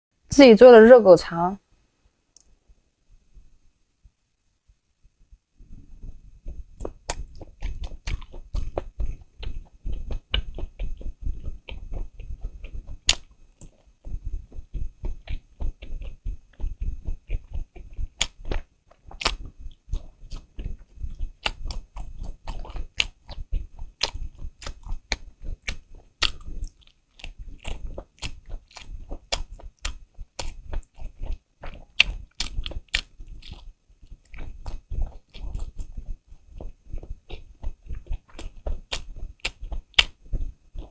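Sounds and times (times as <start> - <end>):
chewing and biting: 6.4 - 40.9
wet mouth clicks and crunches: 6.5 - 40.9.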